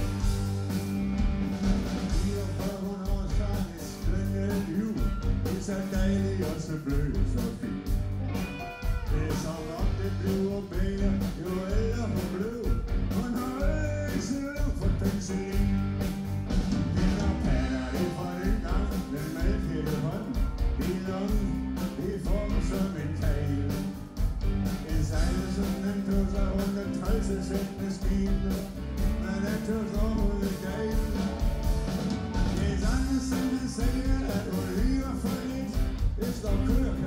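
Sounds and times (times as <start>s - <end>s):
rock band playing: 0.0s - 37.0s
wavering lead guitar line: 0.0s - 37.0s.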